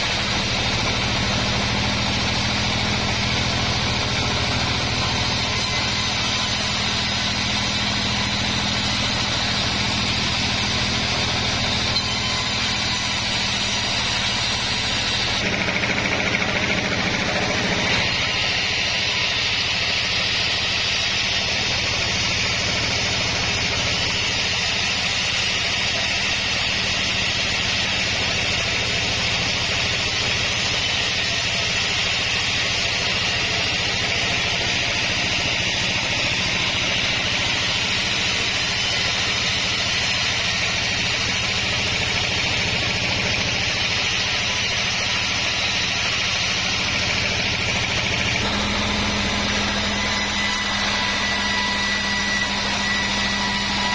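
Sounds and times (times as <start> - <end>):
sawmill machinery hum and hiss: 0.0 - 53.9.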